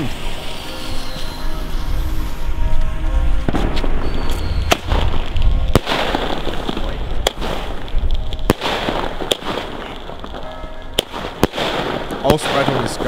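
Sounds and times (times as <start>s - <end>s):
firework launch reports: 0.0s - 13.0s.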